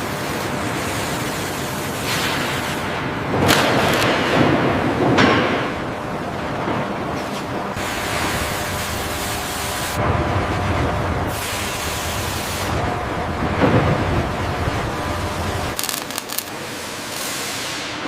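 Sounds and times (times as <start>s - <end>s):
industrial machinery rumbling hiss: 0.0s - 18.0s.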